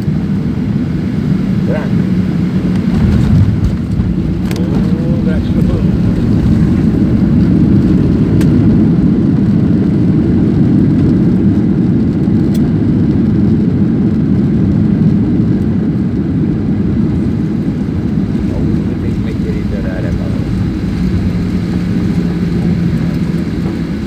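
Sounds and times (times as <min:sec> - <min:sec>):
airliner engines and airflow rumble: 0:00.0 - 0:24.0.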